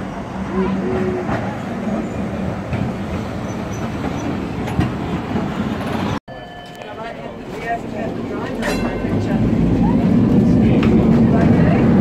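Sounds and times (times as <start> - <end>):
tram wheels rolling on rails: 0.0 - 12.0.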